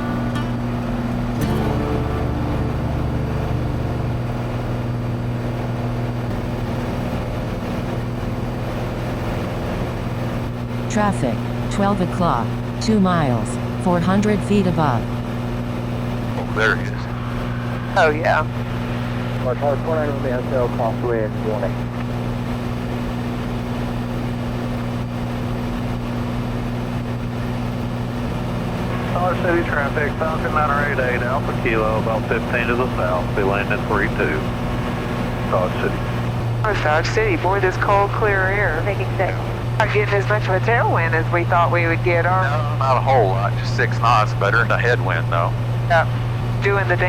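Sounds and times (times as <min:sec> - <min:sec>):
airplane engine and propeller drone: 0:00.0 - 0:47.0.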